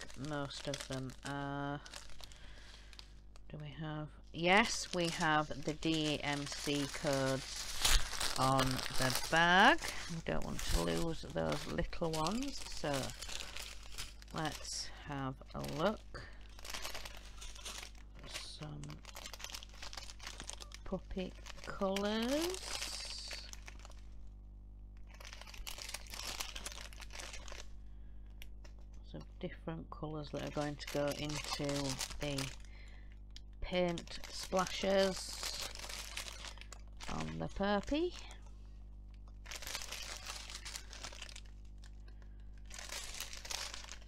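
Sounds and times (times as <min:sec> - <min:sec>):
plastic bags crinkling: 0:00.0 - 0:03.5, 0:04.4 - 0:24.2, 0:25.0 - 0:29.0, 0:30.2 - 0:38.5, 0:39.1 - 0:44.0.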